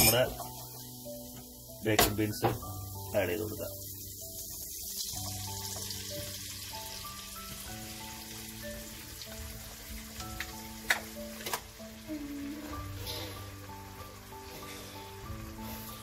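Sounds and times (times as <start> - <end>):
food sizzling in a frying pan: 0.0 - 16.0
soft background music: 0.0 - 16.0.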